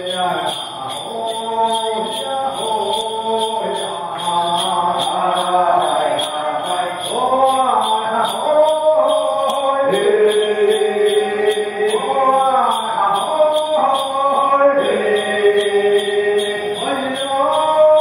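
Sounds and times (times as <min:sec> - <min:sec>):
bells jingling in a steady beat: 0:00.0 - 0:18.0
group chanting a song: 0:00.0 - 0:18.0.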